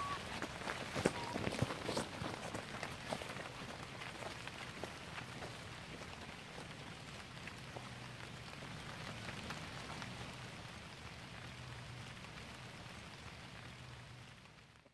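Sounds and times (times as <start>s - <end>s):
light rain on leaves: 0.0s - 14.9s.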